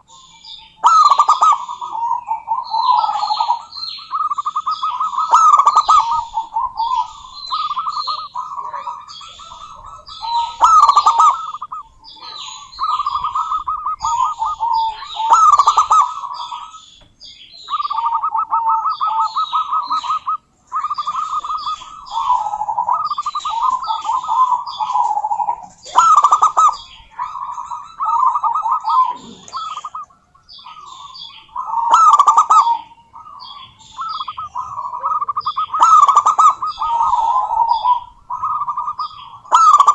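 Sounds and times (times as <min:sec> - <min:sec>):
doves cooing: 0:00.0 - 0:39.9
high bird chirps: 0:00.0 - 0:39.9.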